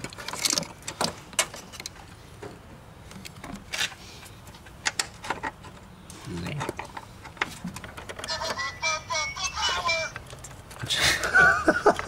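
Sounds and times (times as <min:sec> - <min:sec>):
wiring harness clicks and rustles: 0:00.0 - 0:08.4, 0:10.1 - 0:12.0.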